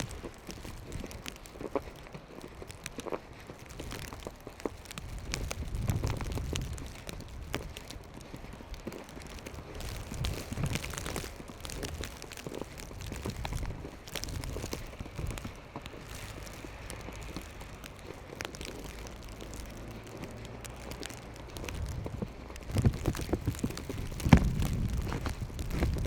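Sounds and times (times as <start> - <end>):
footsteps crunching in snow: 0.0 - 26.0
low rumble of wind or traffic: 0.0 - 26.0.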